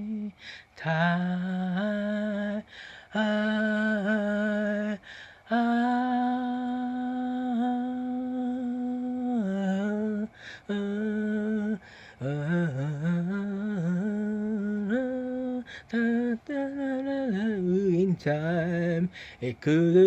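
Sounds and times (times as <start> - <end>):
person humming a melody: 0.0 - 20.0.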